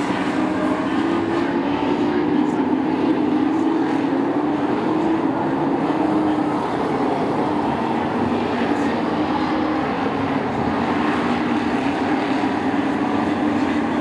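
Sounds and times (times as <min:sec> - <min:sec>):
race truck engines droning: 0:00.0 - 0:14.0.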